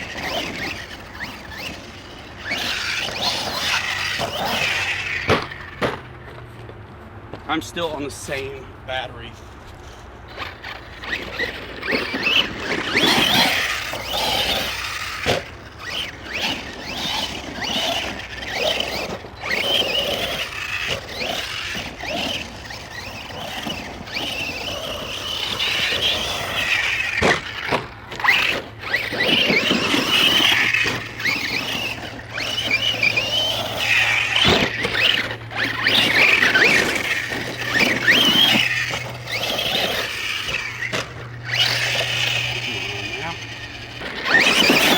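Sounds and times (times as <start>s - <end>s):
electric motor whine: 0.0s - 6.6s, 9.3s - 44.9s.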